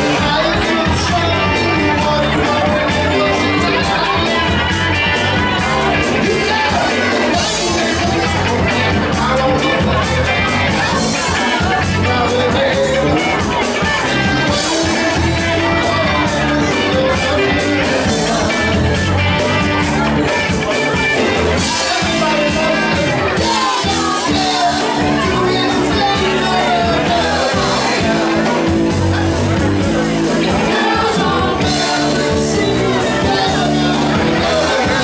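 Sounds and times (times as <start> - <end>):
drums keeping a steady beat: 0.0 - 35.0
electric bass: 0.0 - 35.0
electric guitar: 0.0 - 35.0
lead vocal singing: 0.0 - 35.0.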